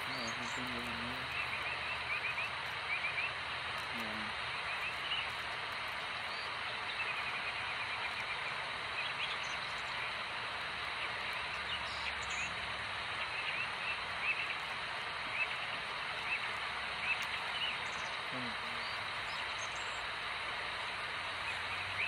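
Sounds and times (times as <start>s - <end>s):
outdoor background hiss: 0.0s - 22.0s
small birds chirping: 0.0s - 22.0s.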